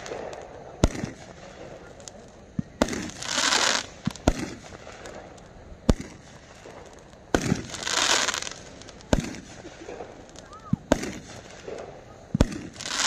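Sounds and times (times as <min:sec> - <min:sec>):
firework bangs: 0:00.0 - 0:13.0
firework crackling bursts: 0:00.0 - 0:13.0.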